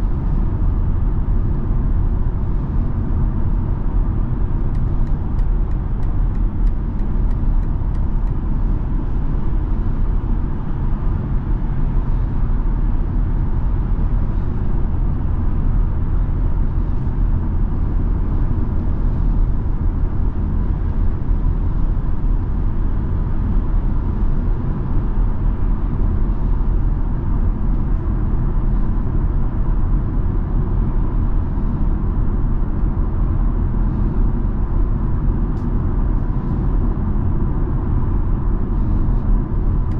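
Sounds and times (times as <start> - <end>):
car cabin road noise drone: 0.0 - 39.9.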